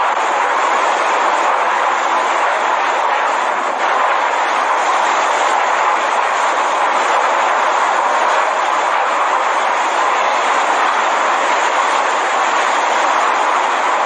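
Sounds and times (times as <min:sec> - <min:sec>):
rain noise: 0:00.0 - 0:14.0
storm wind: 0:00.0 - 0:14.0.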